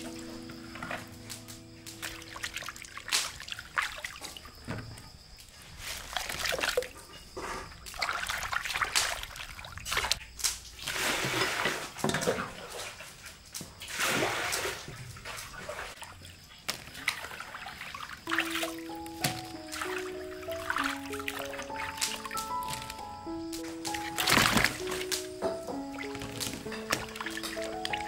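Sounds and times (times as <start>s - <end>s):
water trickling: 0.0s - 28.0s
hands splashing water in basin: 2.0s - 4.5s, 5.8s - 7.0s, 7.8s - 13.2s, 13.8s - 28.0s.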